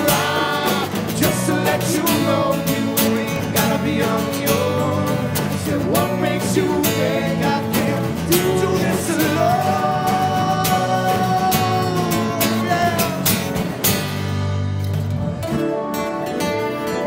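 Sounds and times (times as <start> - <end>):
person singing: 0.0 - 13.7
electric bass: 0.0 - 17.0
strummed acoustic guitars: 0.0 - 17.0.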